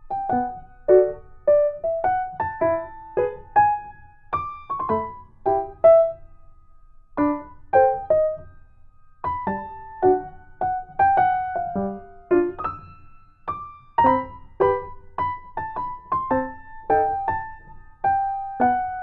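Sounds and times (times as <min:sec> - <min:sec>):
slow gentle piano melody: 0:00.0 - 0:19.0.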